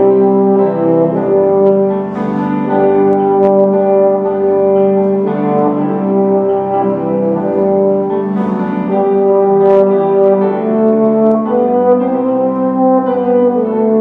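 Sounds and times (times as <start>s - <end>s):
orchestra playing slow piece: 0.0s - 14.0s.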